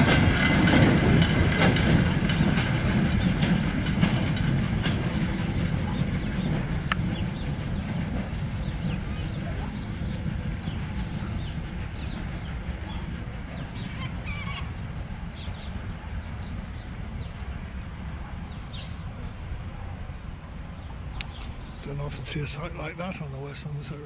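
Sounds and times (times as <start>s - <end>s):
birds chirping: 0.0s - 24.0s
steam train rumbling: 0.0s - 24.0s.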